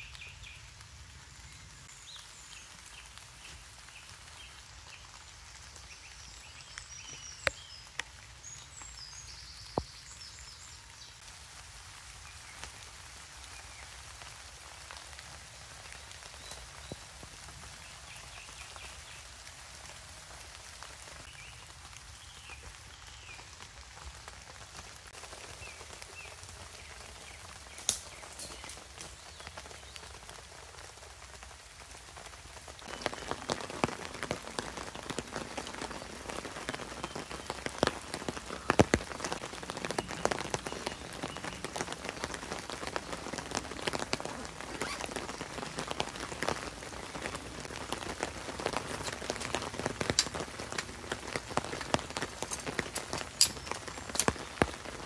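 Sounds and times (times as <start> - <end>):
rain pattering on a tarp: 0.0 - 55.0
steady hiss of rain: 0.0 - 55.0.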